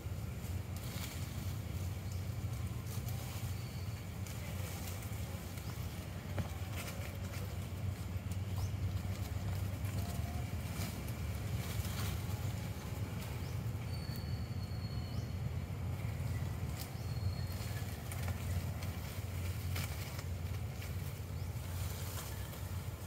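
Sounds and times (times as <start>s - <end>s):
leaves rustling: 0.0s - 23.0s
twigs crackling: 0.0s - 23.0s.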